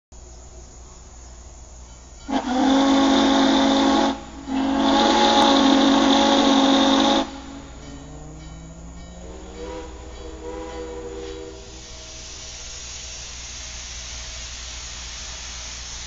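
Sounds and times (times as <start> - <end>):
steam hissing: 0.2 - 16.0
steam locomotive chime whistle: 1.8 - 16.0.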